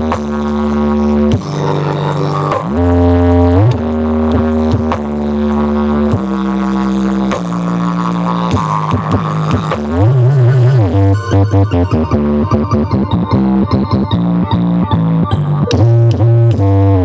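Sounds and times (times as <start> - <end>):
loud bass-heavy music: 0.0 - 17.0.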